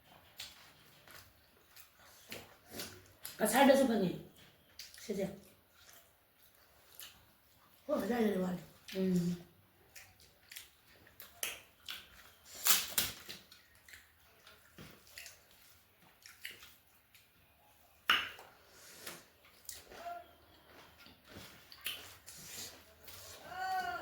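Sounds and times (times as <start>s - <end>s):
mouth clicks and chewing smacks: 0.1s - 3.6s, 4.3s - 7.9s, 8.6s - 23.4s.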